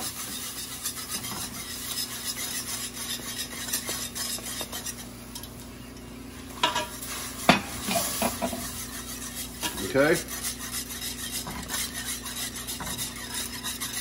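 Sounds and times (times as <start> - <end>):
light sizzle: 0.0 - 14.0
whisk clinking on pot: 0.0 - 14.0
whisk scraping a pan: 0.0 - 14.0.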